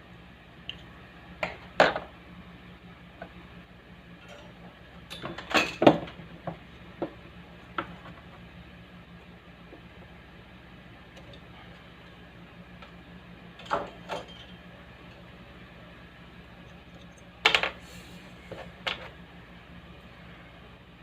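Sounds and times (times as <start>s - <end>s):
speaker electrical hum: 0.0s - 21.0s.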